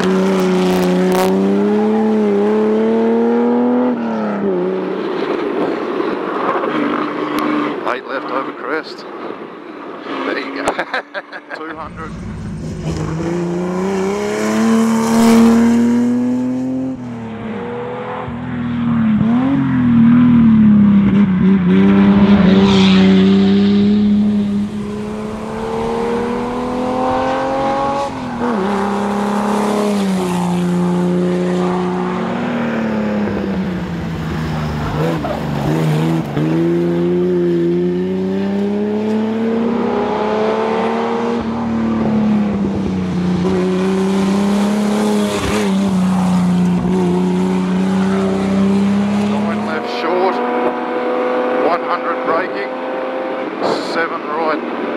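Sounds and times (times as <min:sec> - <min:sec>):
rally car engine at full throttle: 0:00.0 - 0:54.9.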